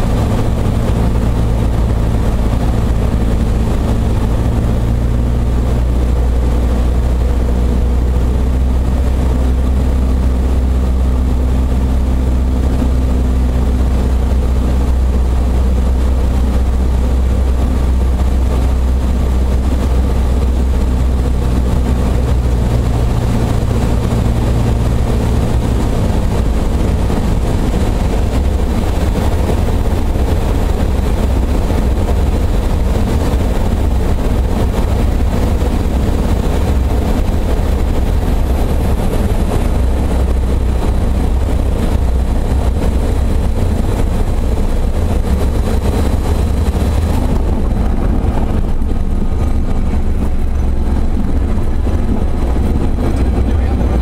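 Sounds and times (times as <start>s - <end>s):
airplane engine and propeller droning: 0.0s - 54.0s.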